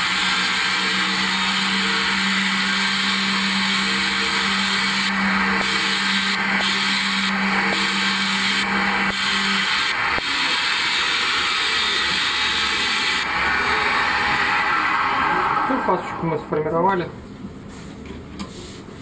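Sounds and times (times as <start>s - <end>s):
electric motor humming: 0.0s - 16.5s
grinding wheel hissing on steel: 0.0s - 17.0s.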